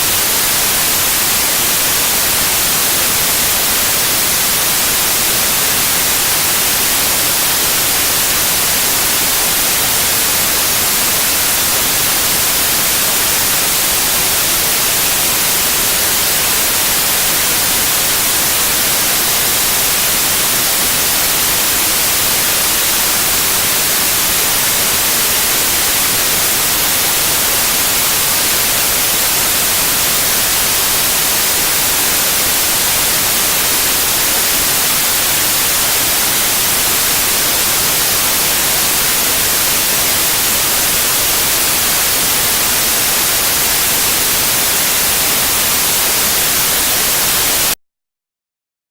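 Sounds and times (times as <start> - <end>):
white noise hiss: 0.0 - 47.8.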